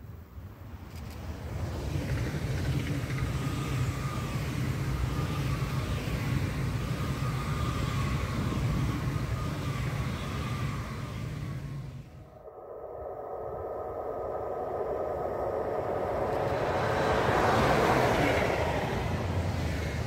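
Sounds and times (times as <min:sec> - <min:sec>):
train passing at speed: 0:00.0 - 0:20.0
faint falling whine: 0:03.0 - 0:20.0.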